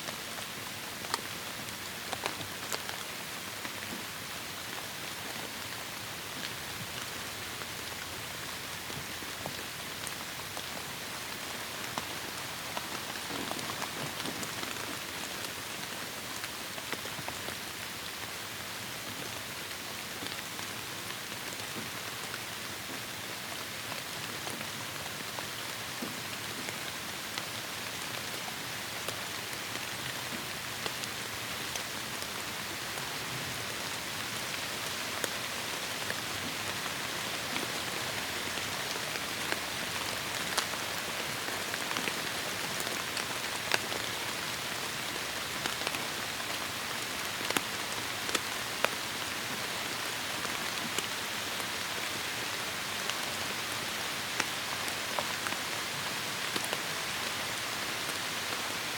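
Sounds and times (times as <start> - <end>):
heavy rain in forest: 0.0 - 58.9
raindrops hitting surfaces: 0.1 - 58.9.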